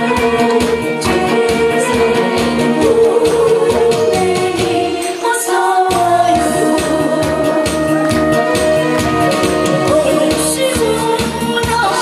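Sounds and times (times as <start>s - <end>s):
woman singing into a microphone: 0.0s - 8.4s, 9.6s - 12.0s
amplified accompaniment with beat: 0.0s - 12.0s.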